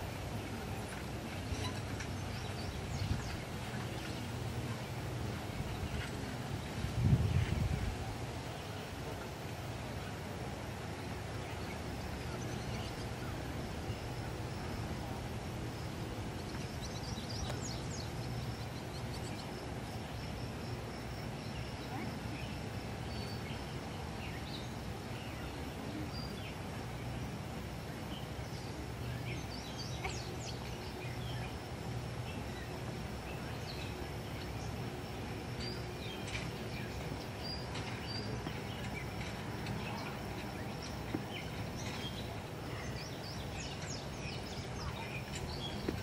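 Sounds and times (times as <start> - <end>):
small birds chirping: 0.0 - 46.0
steady low background noise: 0.0 - 46.0.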